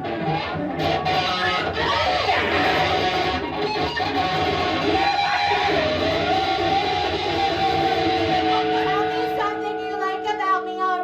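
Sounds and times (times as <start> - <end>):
distorted electric guitar noise: 0.0 - 11.0.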